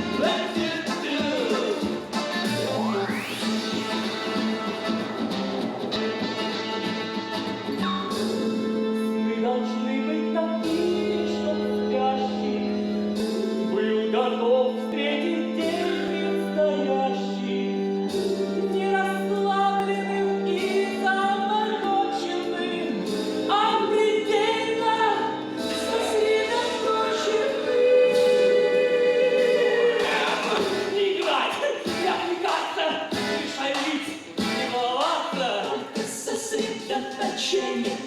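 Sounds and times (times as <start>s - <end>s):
person singing: 0.0s - 4.5s, 8.1s - 38.0s
instrumental accompaniment: 0.0s - 31.3s.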